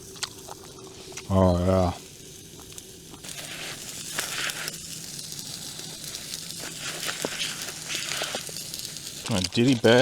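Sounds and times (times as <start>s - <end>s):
crackles: 0.0s - 10.0s
steak sizzling on a grill: 1.3s - 10.0s.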